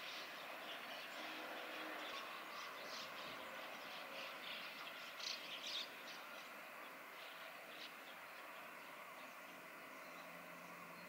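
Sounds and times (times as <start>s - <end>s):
distant background hum: 0.0s - 11.0s.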